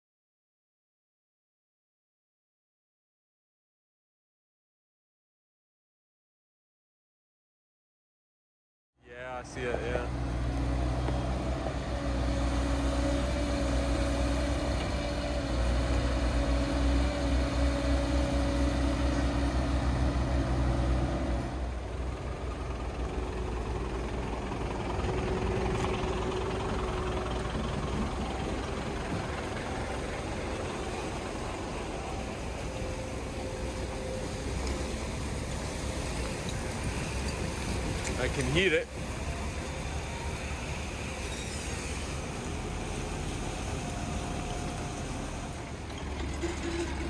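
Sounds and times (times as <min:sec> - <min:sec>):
heavy diesel machinery running: 0:09.2 - 0:47.0.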